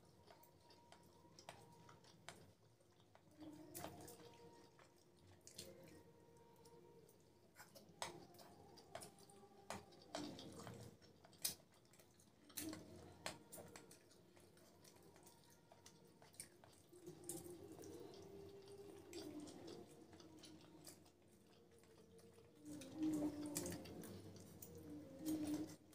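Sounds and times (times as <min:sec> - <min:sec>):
wet chewing and smacking: 0:00.0 - 0:25.9.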